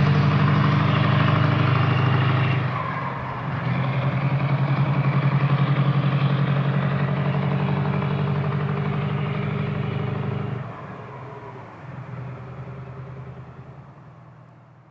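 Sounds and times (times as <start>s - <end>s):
truck diesel engine pulling away: 0.0s - 14.9s.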